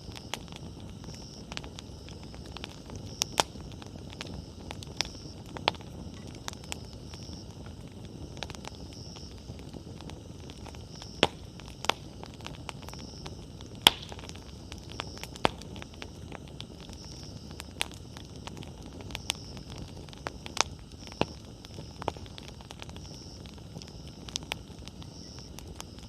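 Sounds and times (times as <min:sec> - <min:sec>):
campfire crackling and popping: 0:00.0 - 0:26.0
fire hissing: 0:00.0 - 0:26.0.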